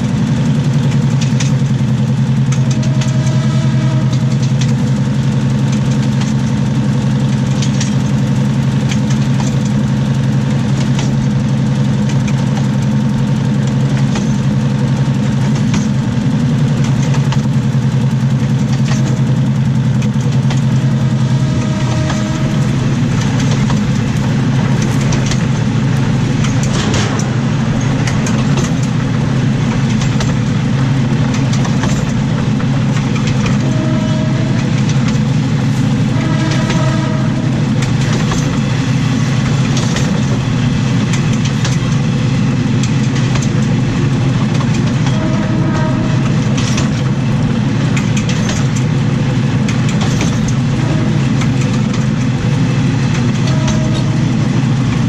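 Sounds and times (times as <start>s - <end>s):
diesel engine droning: 0.0s - 55.0s
steel wheels clicking on track: 0.0s - 55.0s.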